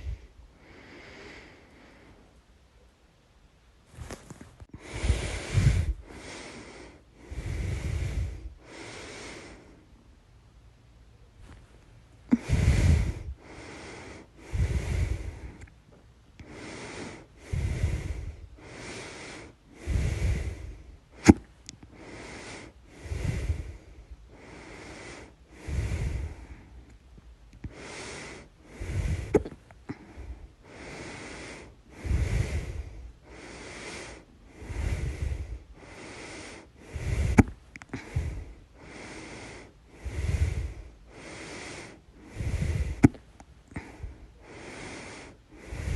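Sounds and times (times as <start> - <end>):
person breathing heavily: 0.0 - 2.4, 3.9 - 10.2, 11.4 - 45.9.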